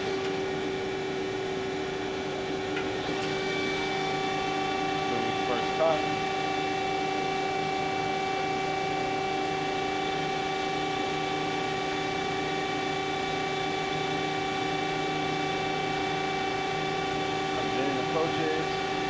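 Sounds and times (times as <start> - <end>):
band saw hum and whine: 0.0 - 19.0.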